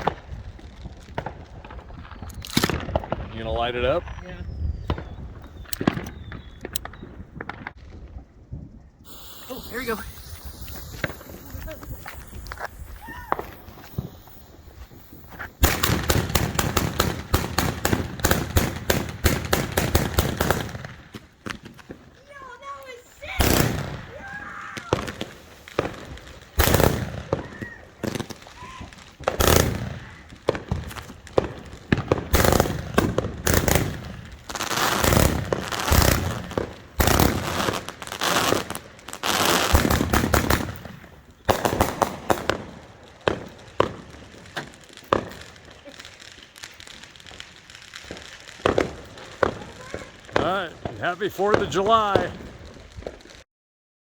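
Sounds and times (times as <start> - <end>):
fireworks bangs: 0.0 - 53.4.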